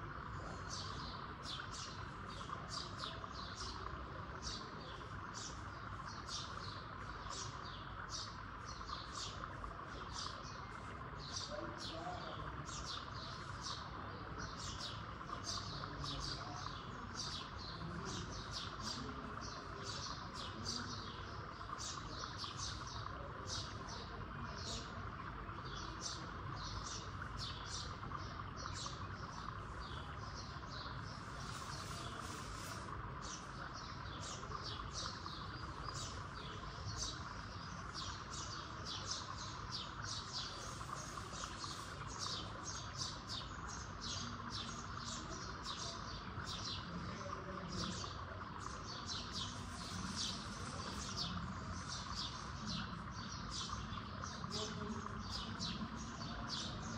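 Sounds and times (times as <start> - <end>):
small birds chirping: 0.0 - 56.9
steady background noise: 0.0 - 56.9.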